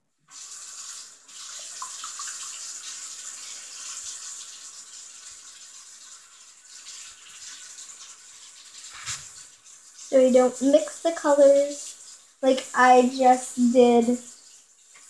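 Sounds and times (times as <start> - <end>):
water running from a tap: 0.3 - 15.0.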